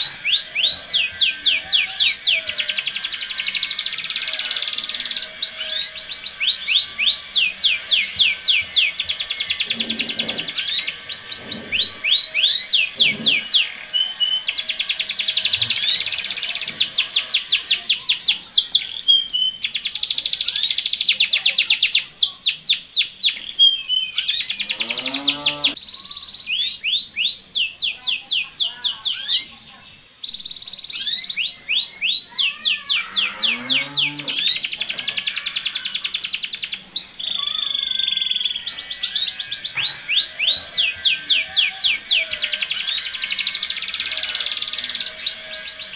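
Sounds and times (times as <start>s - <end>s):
canary calls: 0.0s - 45.9s
canary singing fast trills: 0.0s - 45.9s.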